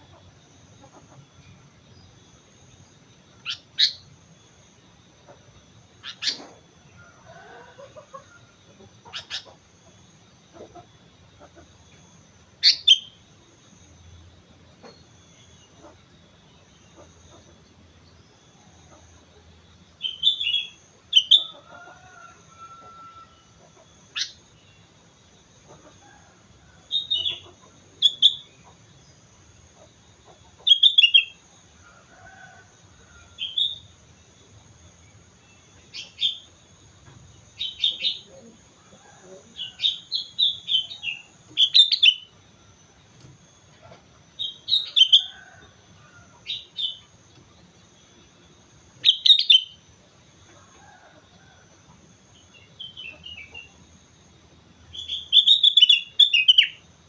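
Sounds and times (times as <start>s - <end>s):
faint steady high tone: 9.8s - 57.0s.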